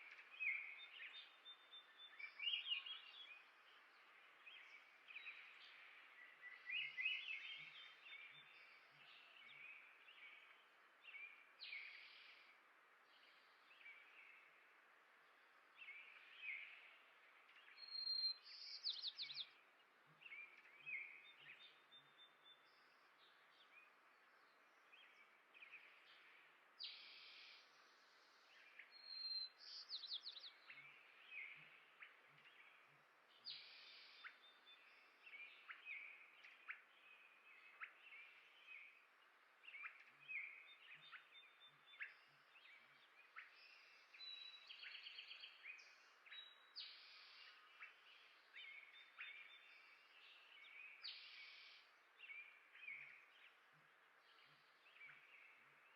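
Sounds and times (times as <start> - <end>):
faint steady hiss: 0.0 - 55.9
songbirds chirping and singing: 0.0 - 55.9.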